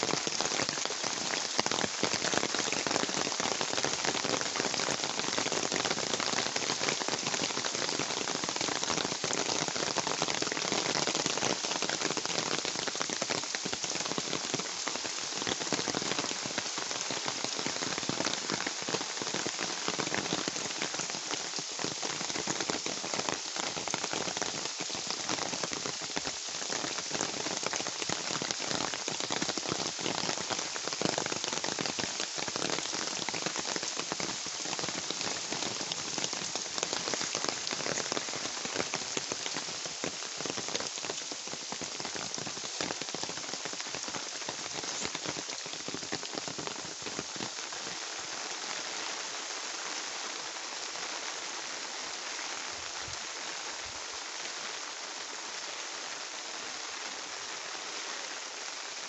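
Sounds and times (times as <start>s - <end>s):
steady rain with dripping taps: 0.0s - 59.0s.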